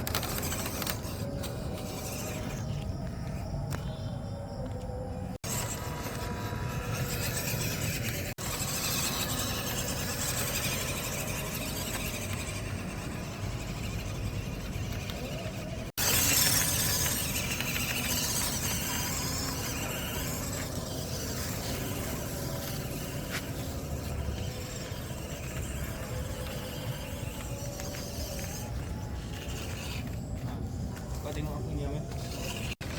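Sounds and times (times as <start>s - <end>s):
electric motor and gears whining: 0.0s - 32.9s.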